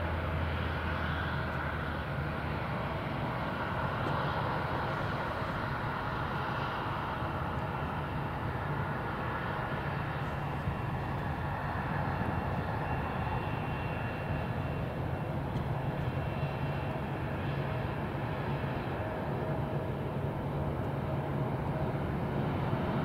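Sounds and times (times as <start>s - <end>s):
jet engines rushing with whine: 0.0s - 23.0s.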